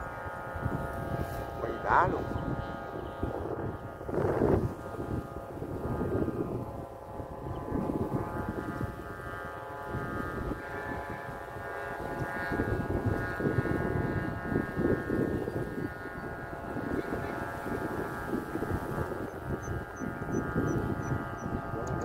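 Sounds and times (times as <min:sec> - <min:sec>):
kite flutes droning: 0:00.0 - 0:22.0
wind rumbling on microphone: 0:00.0 - 0:22.0.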